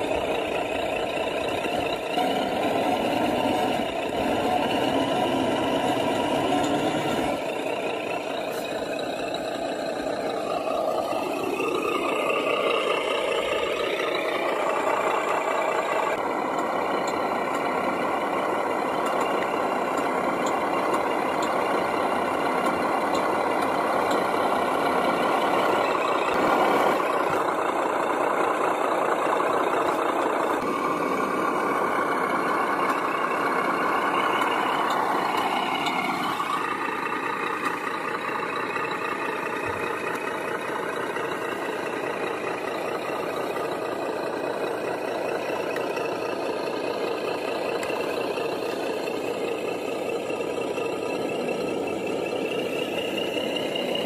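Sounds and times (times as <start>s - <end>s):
toy truck motor whining: 0.0s - 54.0s.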